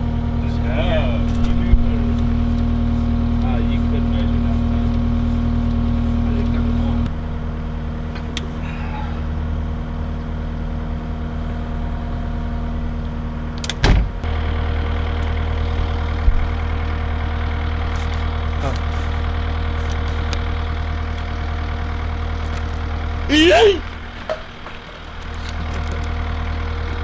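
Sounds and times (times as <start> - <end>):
tracked machine engine idling: 0.0 - 27.0.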